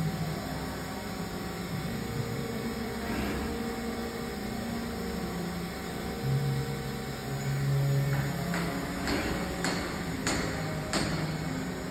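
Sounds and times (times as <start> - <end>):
machine humming with held tones: 0.0 - 11.9.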